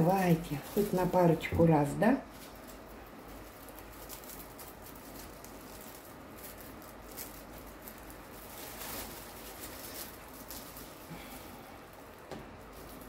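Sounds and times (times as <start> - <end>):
cling film rustling: 0.0 - 13.0.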